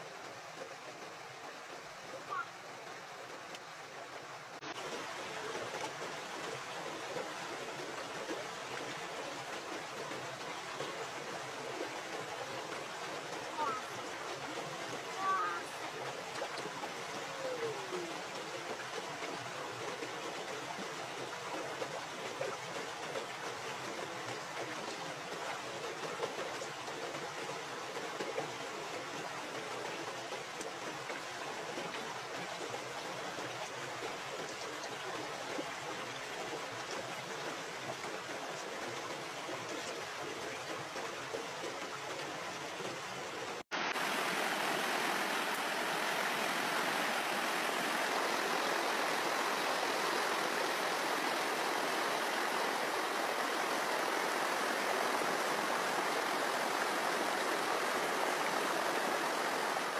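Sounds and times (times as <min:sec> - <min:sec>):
stream pouring over rocks: 0:00.0 - 0:59.9.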